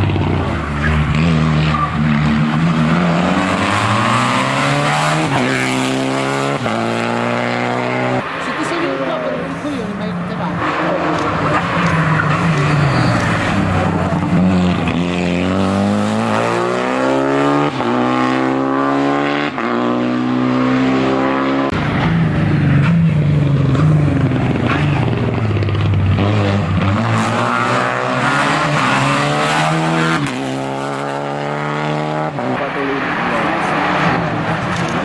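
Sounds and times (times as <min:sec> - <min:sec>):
race car engine accelerating: 0:00.0 - 0:35.0.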